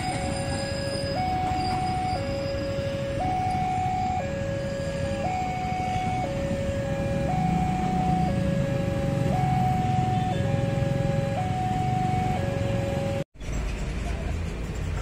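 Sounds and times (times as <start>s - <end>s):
two-tone electronic alarm: 0.0s - 13.2s.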